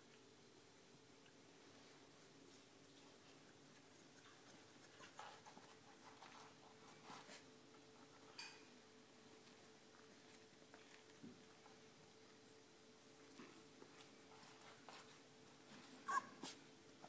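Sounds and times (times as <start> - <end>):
faint steady hum: 0.0 - 17.0
puppies rustling on blanket: 1.2 - 17.0.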